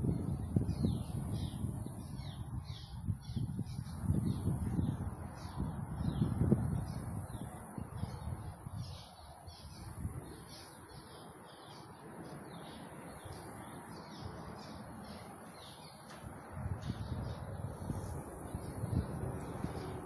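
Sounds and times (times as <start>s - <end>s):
wind rumble on microphone: 0.0s - 20.0s
songbird chirping: 0.1s - 20.0s.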